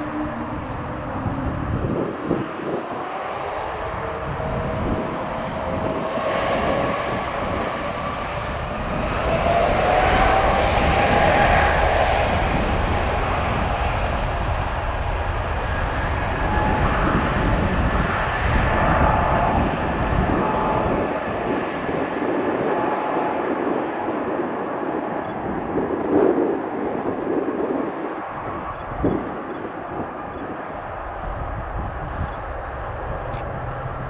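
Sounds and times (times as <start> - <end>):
aircraft engines roaring: 0.0 - 34.0
wind buffeting microphone: 0.0 - 34.0.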